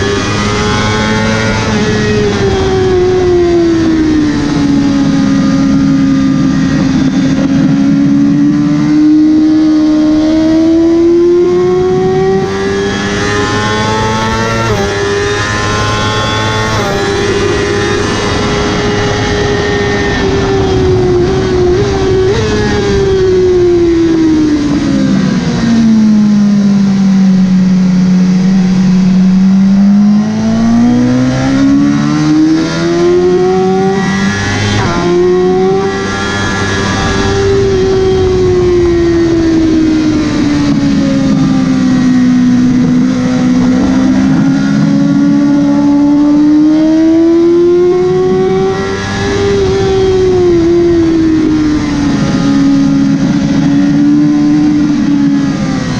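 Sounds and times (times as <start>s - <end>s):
motorcycle engine revving: 0.0s - 55.9s
wind rushing: 0.0s - 55.9s.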